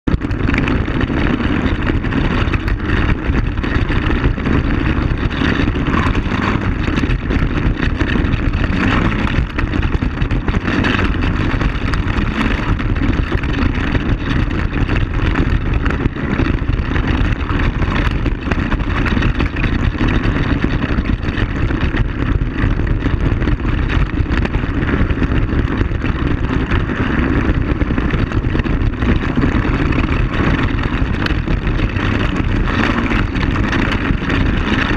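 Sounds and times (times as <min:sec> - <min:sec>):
quad bike engine running: 0:00.0 - 0:34.9
wind noise: 0:00.0 - 0:34.9
tyres on gravel: 0:00.1 - 0:34.9.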